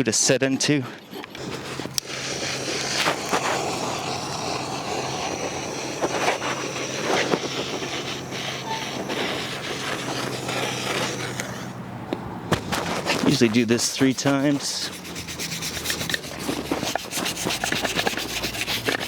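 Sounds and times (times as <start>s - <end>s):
sharp scrapes: 0.0s - 11.8s, 12.5s - 19.0s
power grinder on hoof: 1.0s - 11.8s, 12.7s - 19.0s.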